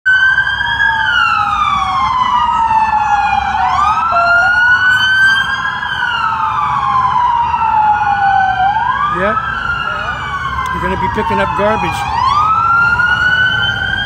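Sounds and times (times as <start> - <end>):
emergency vehicle sirens wailing: 0.0 - 14.0.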